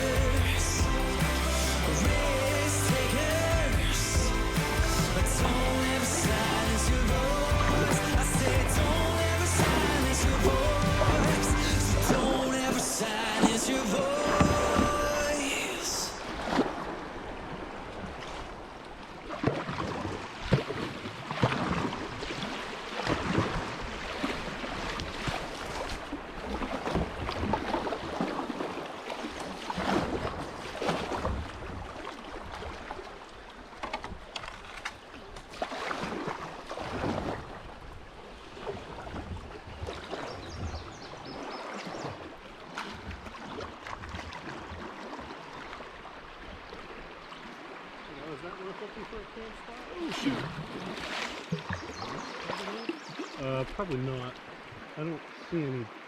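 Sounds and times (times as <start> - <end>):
moving water wash: 0.0 - 55.9
kayak paddle splashing: 0.0 - 56.0.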